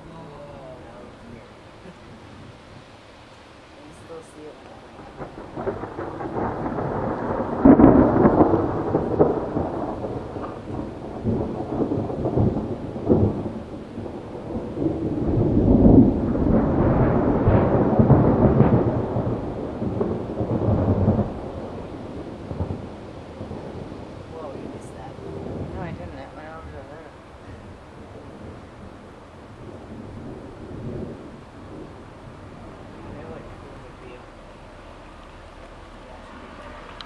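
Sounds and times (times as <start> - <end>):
thunder rumbling: 0.0 - 37.0.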